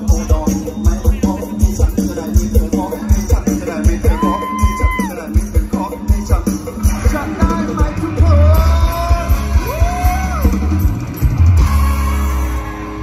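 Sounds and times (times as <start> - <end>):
live band music with bass beat: 0.0 - 13.0.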